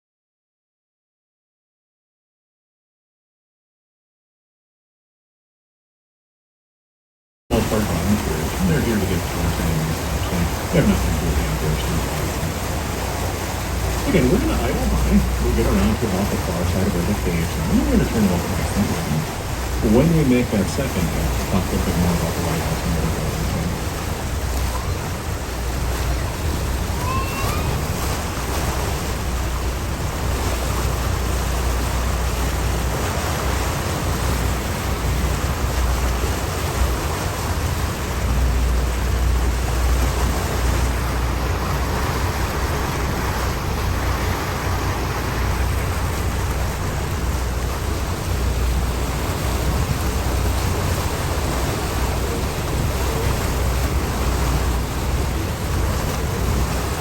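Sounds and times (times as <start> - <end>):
boat engine low rumble: 7.5 - 57.0
wind and water rushing: 7.5 - 57.0.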